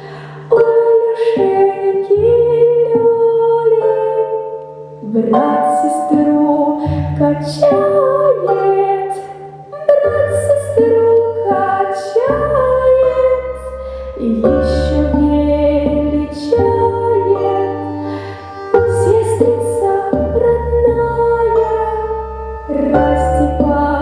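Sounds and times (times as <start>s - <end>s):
instrumental accompaniment: 0.0s - 24.0s
woman singing folk song: 0.0s - 24.0s.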